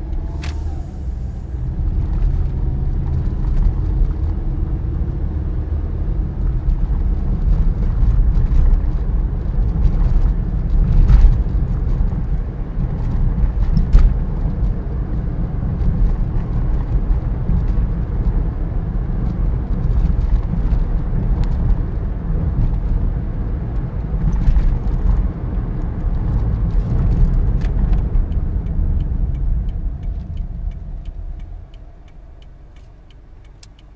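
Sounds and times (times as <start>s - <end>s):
tyre and road rumble: 0.0s - 33.9s.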